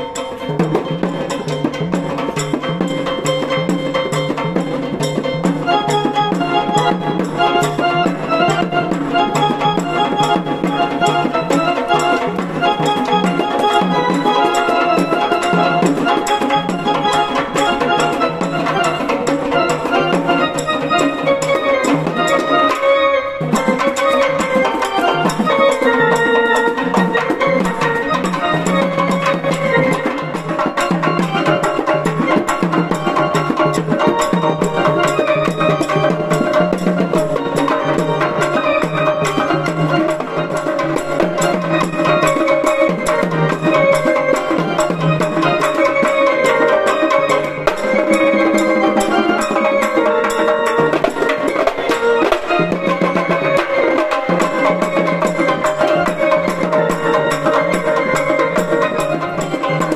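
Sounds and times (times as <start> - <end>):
fast drumming: 0.0 - 59.9
melody line: 0.0 - 59.9.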